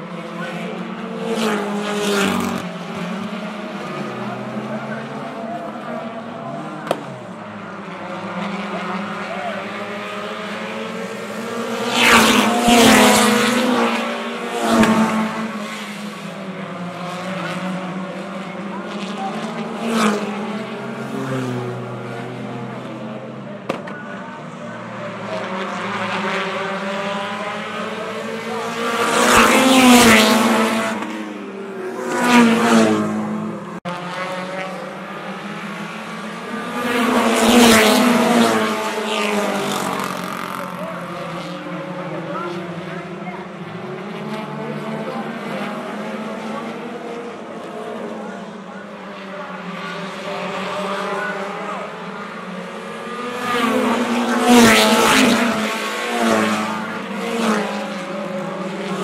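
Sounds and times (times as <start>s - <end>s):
race car engines passing by: 0.0s - 59.0s.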